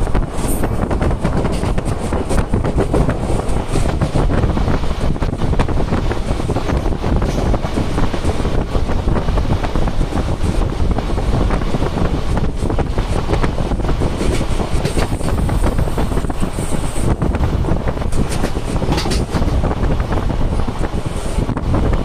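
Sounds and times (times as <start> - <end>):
train rumbling inside carriage: 0.0 - 22.0
wind blowing on microphone: 0.0 - 22.0.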